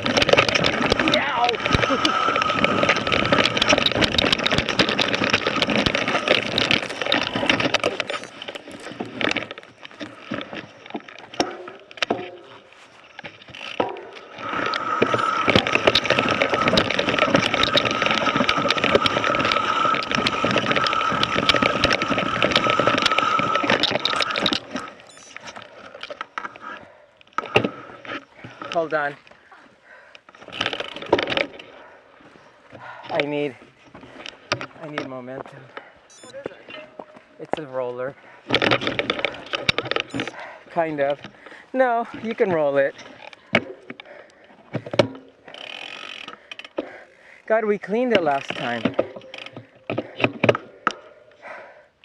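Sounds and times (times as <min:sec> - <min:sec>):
bike tyres crunching on dirt: 0:00.0 - 0:51.7
bike rattling over rocks: 0:00.0 - 0:51.9.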